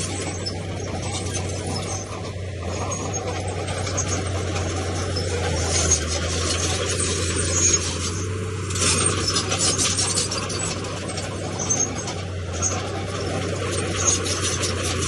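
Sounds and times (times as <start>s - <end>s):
bulldozer diesel engine hum: 0.0s - 15.0s
steel tracks clanking and rattling: 0.0s - 15.0s.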